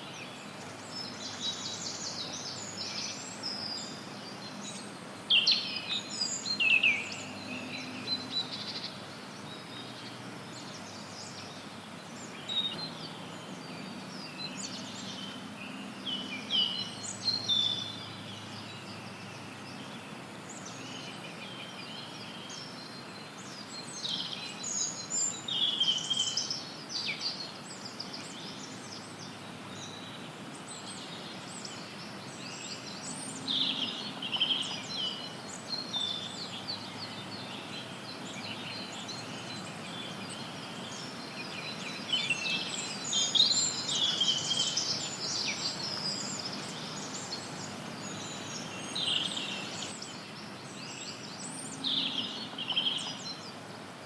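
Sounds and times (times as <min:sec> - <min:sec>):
songbirds chirping and singing: 0:00.0 - 0:54.0
white noise hiss: 0:00.0 - 0:54.0.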